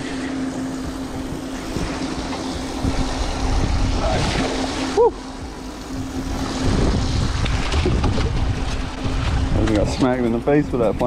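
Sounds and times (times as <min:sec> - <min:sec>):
steady low hum: 0:00.0 - 0:11.0
water splashing by boat: 0:00.0 - 0:11.0
wind noise: 0:00.8 - 0:04.7, 0:05.9 - 0:11.0.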